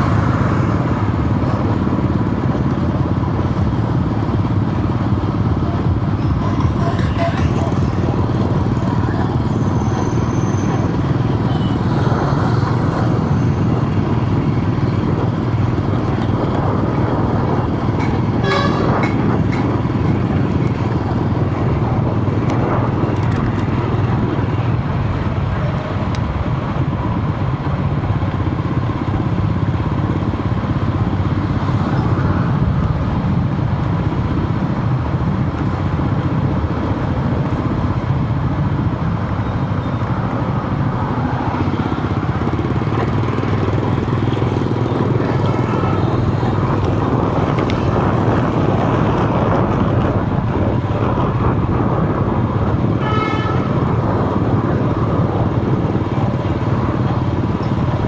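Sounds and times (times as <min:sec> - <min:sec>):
traffic road rumble: 0:00.0 - 0:58.0.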